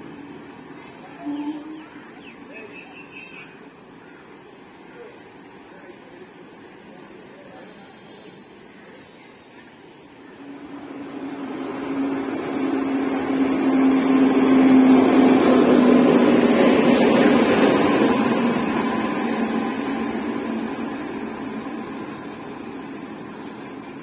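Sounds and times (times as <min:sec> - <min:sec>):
electric locomotive passing: 0:00.0 - 0:24.0
wheel and rail noise: 0:00.0 - 0:24.0.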